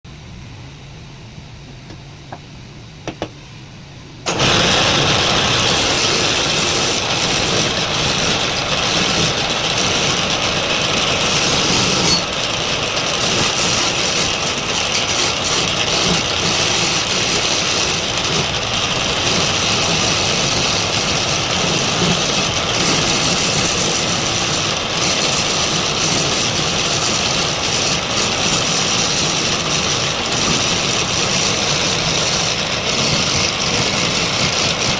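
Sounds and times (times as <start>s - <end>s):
wood lathe running: 4.3s - 34.9s.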